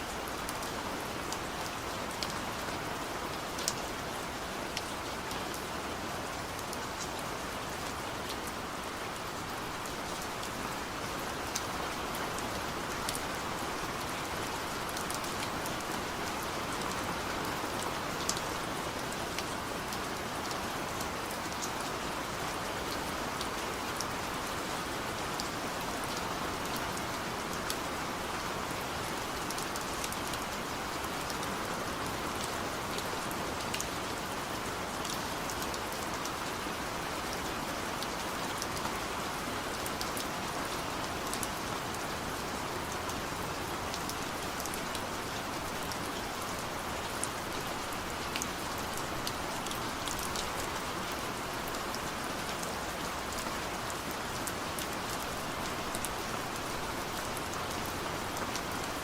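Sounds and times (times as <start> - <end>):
steady rain hiss: 0.0 - 59.0
raindrops ticking on surface: 3.1 - 59.0.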